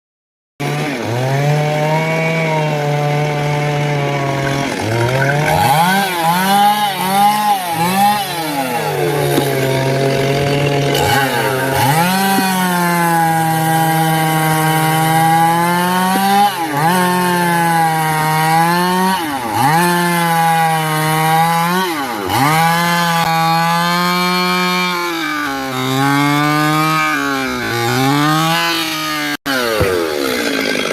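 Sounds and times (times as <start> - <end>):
chainsaw cutting wood: 0.6 - 30.9.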